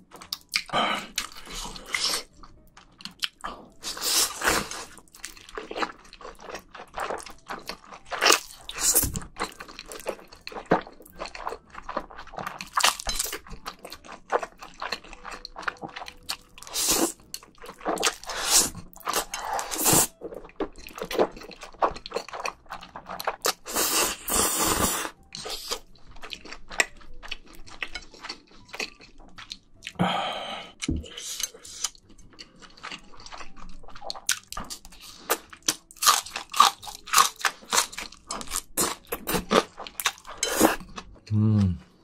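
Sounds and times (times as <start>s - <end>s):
smacking chews: 0.1s - 30.0s, 30.8s - 41.3s.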